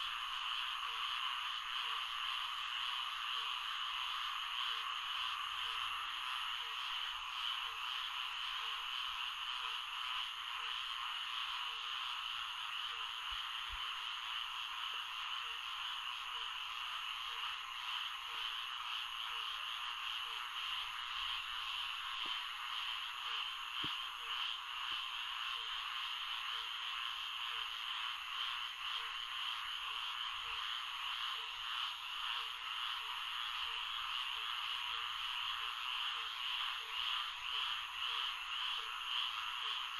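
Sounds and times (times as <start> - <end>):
frog chorus: 0.0 - 39.9.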